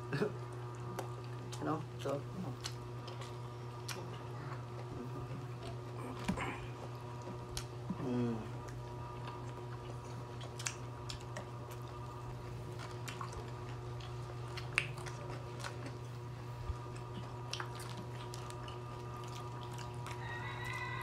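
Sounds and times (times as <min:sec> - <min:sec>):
people chewing food: 0:00.0 - 0:21.0
steady low hum: 0:00.0 - 0:21.0.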